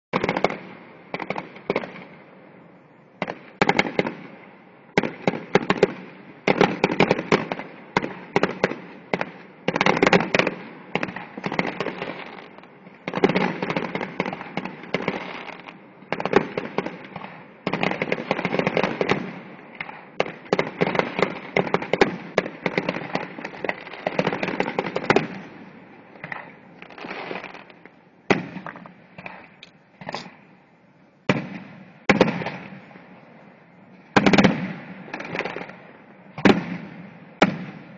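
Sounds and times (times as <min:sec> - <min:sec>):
fireworks bangs and crackling: 0:00.1 - 0:02.3, 0:03.2 - 0:30.6, 0:31.2 - 0:37.9.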